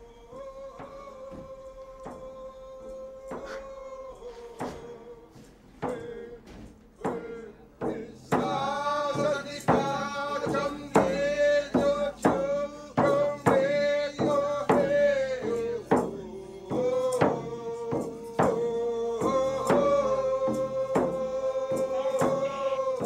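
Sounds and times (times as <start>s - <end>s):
drum beats: 0.0s - 23.0s
person singing long notes: 0.0s - 23.0s.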